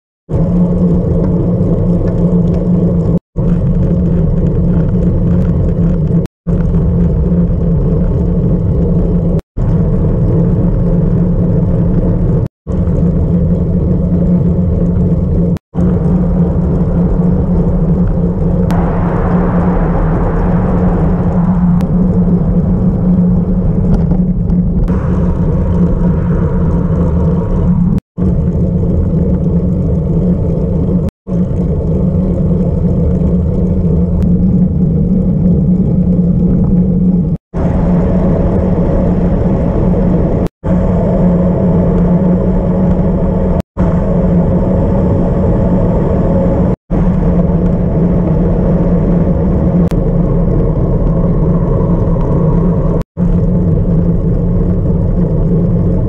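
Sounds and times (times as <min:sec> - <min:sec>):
wind noise on microphone: 0:00.3 - 0:56.0.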